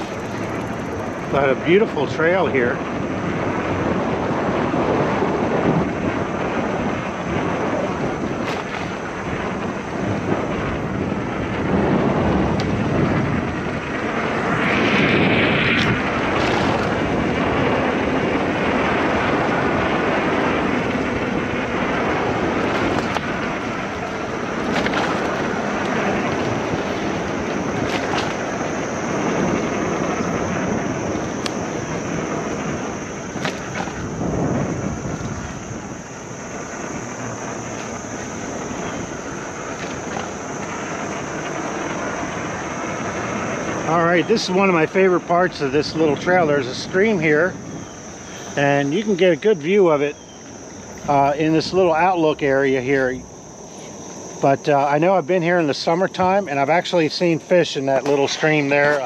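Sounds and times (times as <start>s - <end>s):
bike tyre noise: 0.0s - 59.0s
wind on microphone: 0.0s - 59.0s.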